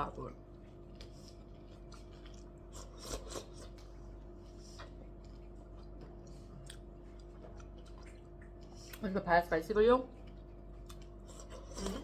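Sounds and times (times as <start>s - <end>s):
steady low hum: 0.0s - 12.0s
crunching chews: 0.4s - 9.0s, 10.1s - 12.0s.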